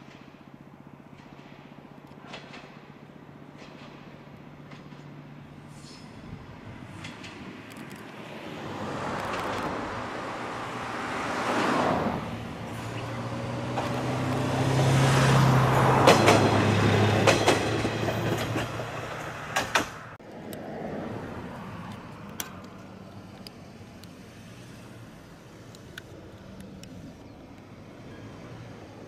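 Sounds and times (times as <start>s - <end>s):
wheels clacking over rail joints: 0.0s - 5.9s, 6.8s - 10.2s, 12.2s - 28.6s
diesel railcar engine drone: 0.0s - 29.0s.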